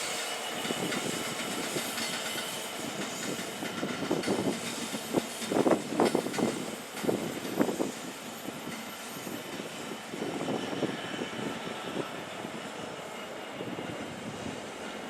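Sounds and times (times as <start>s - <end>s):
train wheel clatter: 0.0s - 12.7s
train rolling on track: 0.0s - 15.0s.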